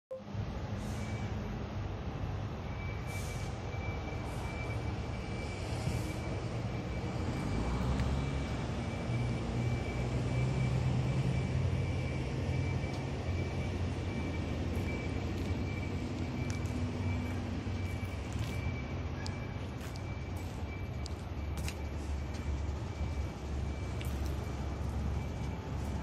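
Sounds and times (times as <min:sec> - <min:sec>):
vehicle engine humming: 0:00.2 - 0:26.0.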